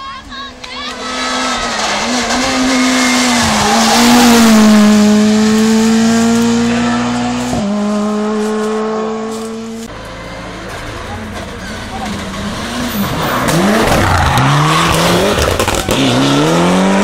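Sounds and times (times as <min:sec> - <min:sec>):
rally car engine at high revs: 0:00.9 - 0:17.0.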